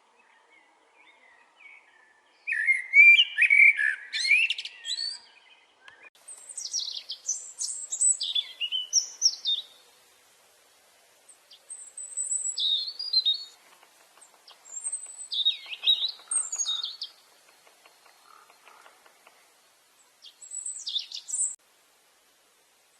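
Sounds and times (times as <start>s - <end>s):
songbird singing: 0.0s - 21.7s.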